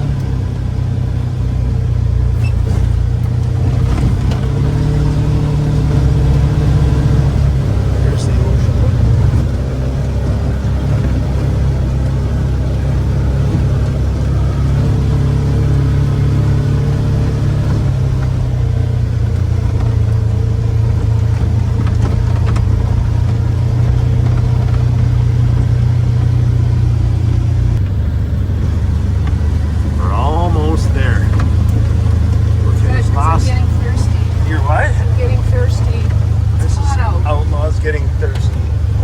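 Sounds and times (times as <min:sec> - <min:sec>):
engine hum: 0:00.0 - 0:39.0
road rumble: 0:00.0 - 0:39.0.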